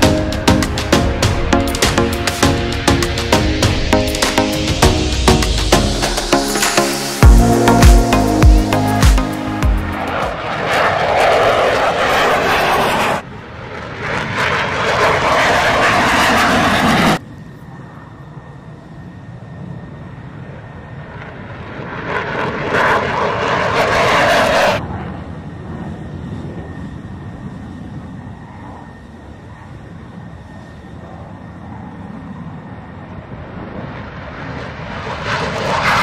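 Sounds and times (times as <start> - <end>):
jet engine roar: 0.0 - 36.0
jet rumble: 0.0 - 36.0.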